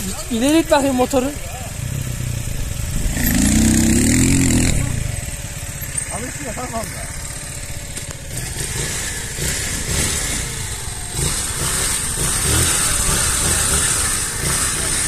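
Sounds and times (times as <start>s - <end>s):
small motorcycle engine revving: 0.0s - 15.0s.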